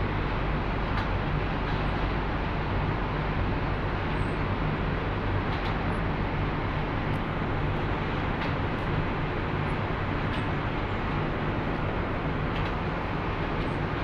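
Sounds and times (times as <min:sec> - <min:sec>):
constant low hum: 0:00.0 - 0:14.0
extraction fan rushing: 0:00.0 - 0:14.0.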